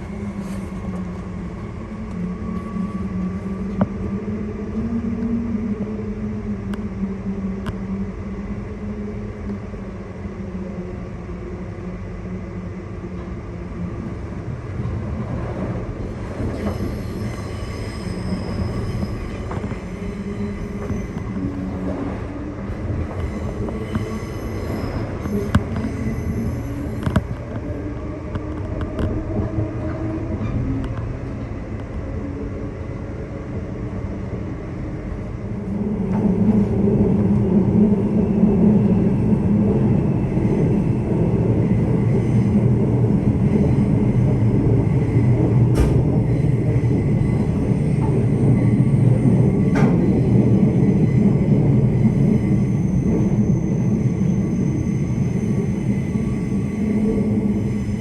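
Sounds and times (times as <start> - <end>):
electric train rumbling on track: 0.0 - 58.0.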